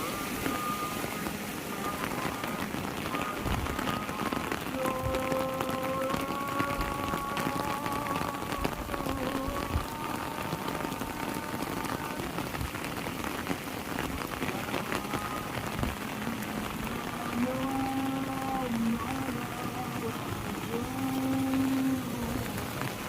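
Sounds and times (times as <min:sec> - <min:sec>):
heavy rain pattering: 0:00.0 - 0:23.0.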